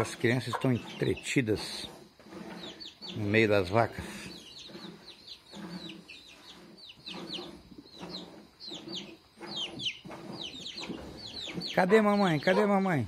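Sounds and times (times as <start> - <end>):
chicks peeping: 0.0 - 12.9
hen clucking: 0.0 - 13.0.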